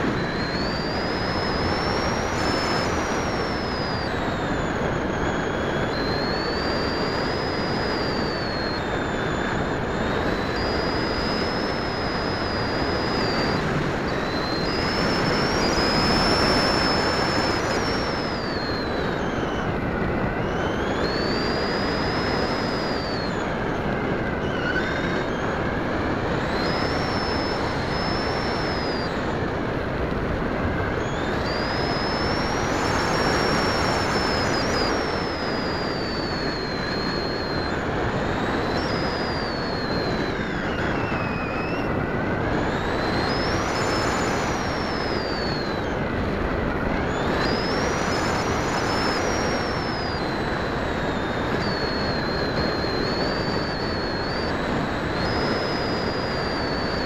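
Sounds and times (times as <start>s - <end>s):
electric motor whine: 0.0s - 57.0s
wind rushing across microphone: 0.0s - 57.0s.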